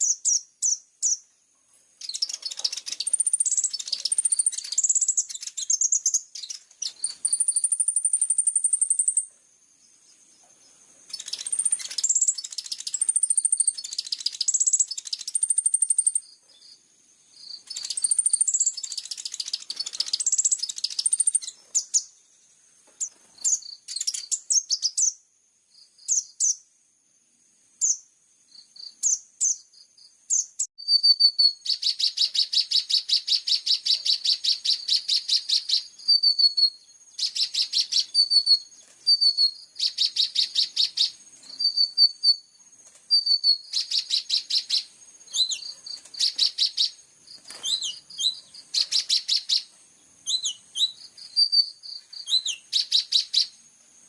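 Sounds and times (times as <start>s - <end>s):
songbird chirps and trills: 0.0s - 54.0s.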